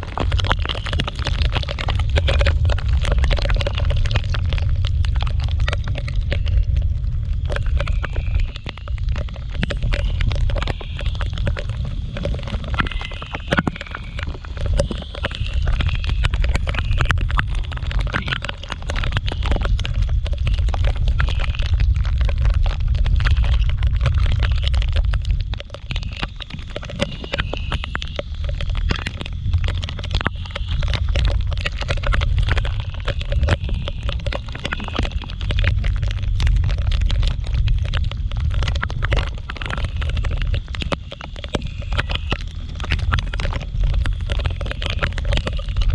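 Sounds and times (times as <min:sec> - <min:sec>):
raindrops clicking on microphone: 0:00.0 - 0:45.9.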